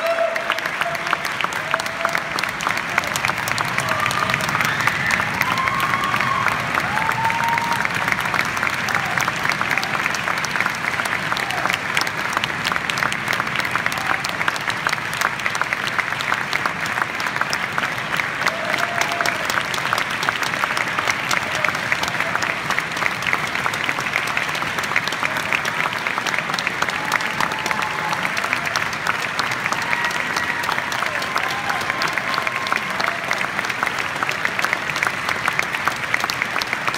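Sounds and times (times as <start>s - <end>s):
audience applauding: 0.0s - 36.9s.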